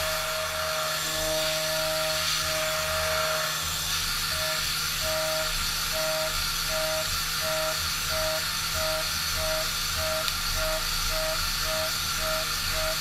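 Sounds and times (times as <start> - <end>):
milling machine cutting steel: 0.0 - 13.0.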